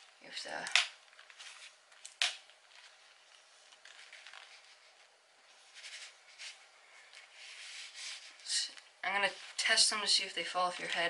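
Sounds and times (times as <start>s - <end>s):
handling plastic headphones rustling: 0.0s - 9.8s, 10.5s - 11.0s.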